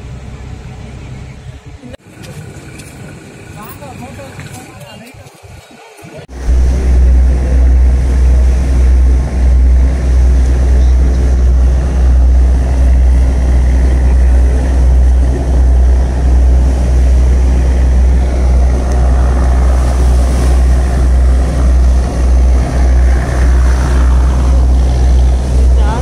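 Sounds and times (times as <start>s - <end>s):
ferry engine drone: 0.0s - 26.0s
wind on microphone: 4.3s - 26.0s.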